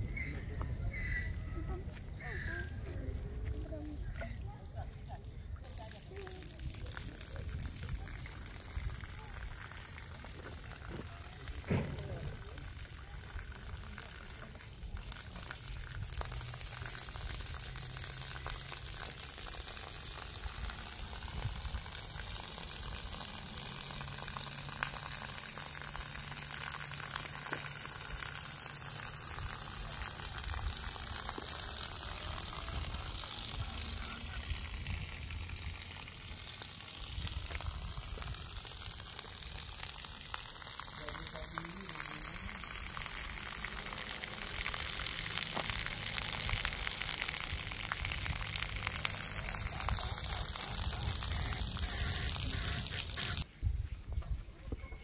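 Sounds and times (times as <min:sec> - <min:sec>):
rainwater pouring from drain spout: 0:00.0 - 0:53.5.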